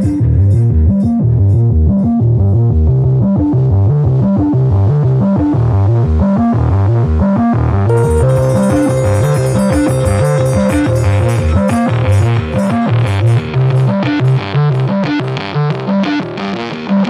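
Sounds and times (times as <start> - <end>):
synthesizer music with bass line: 0.0 - 16.0.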